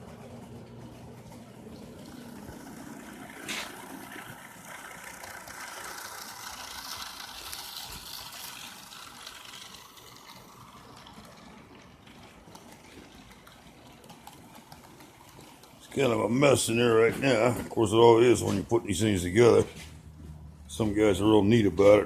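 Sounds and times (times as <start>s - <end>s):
model train rattling on track: 1.9s - 19.7s.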